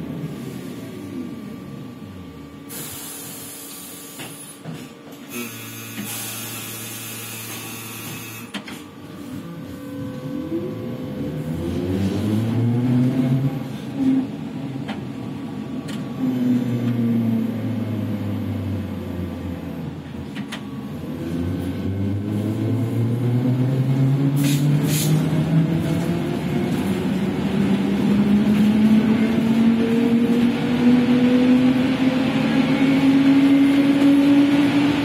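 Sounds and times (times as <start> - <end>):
trolleybus motor whine: 0.0 - 35.0.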